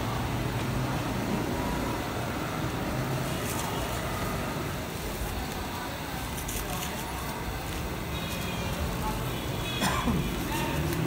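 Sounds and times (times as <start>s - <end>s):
passing vehicles: 0.0s - 11.0s.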